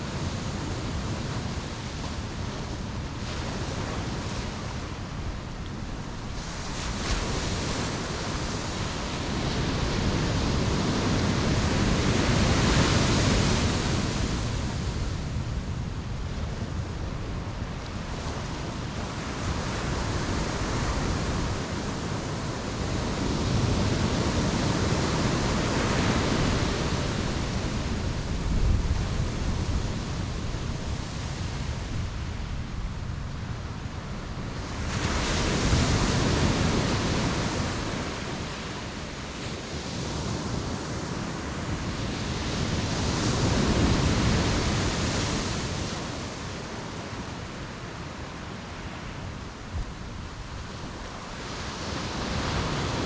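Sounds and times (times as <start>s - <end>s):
ocean surf washing on beach: 0.0s - 53.0s.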